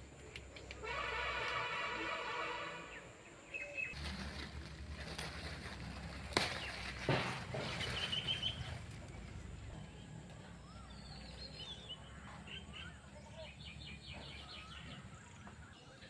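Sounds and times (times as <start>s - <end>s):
birds chirping: 2.4s - 16.0s.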